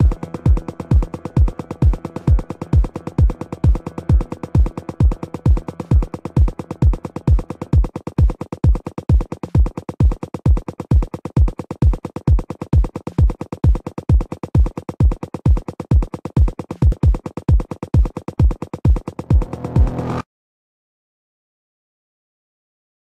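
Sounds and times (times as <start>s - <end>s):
drum machine kick: 0.0s - 20.2s
fast thin percussion ticks: 0.0s - 20.2s.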